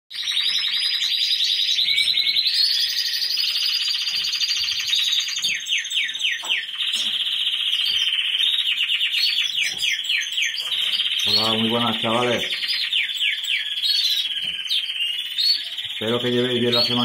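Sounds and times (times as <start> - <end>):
canaries singing rapid trills: 0.1 - 17.0.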